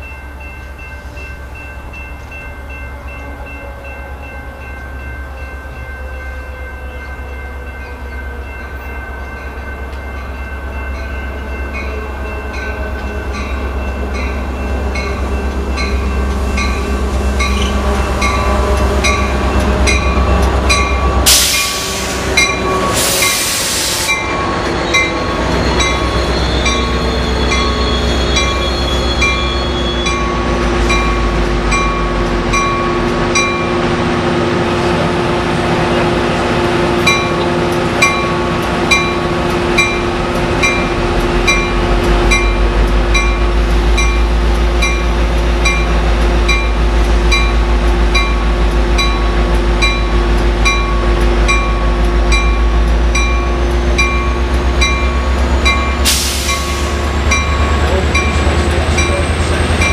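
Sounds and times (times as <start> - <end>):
diesel locomotive engine rumble: 0.0 - 59.9
grade-crossing bell ringing: 0.0 - 59.9.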